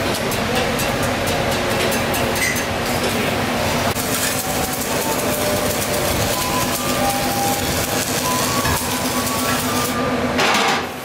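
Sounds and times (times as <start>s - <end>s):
workshop machinery din: 0.0s - 11.0s.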